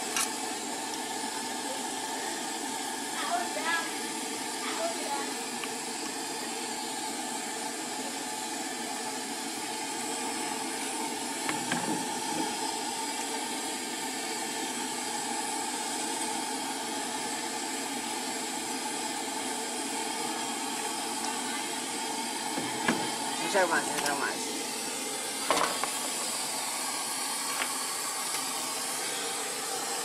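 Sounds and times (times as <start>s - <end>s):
cooking burner hissing: 0.0s - 30.0s.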